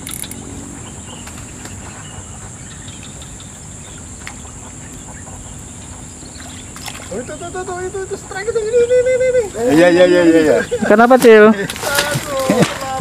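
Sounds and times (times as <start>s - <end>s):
insects droning: 0.0s - 13.0s
low outdoor rumble: 0.0s - 13.0s.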